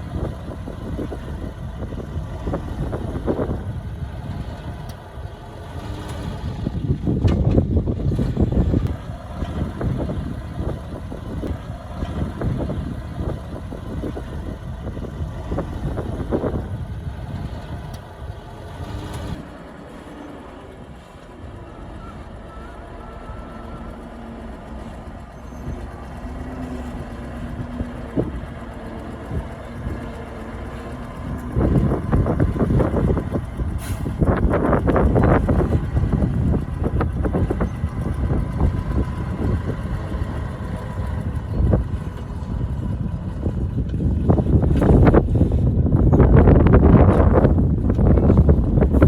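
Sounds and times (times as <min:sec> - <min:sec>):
diesel machinery rumbling: 0:00.0 - 0:49.0.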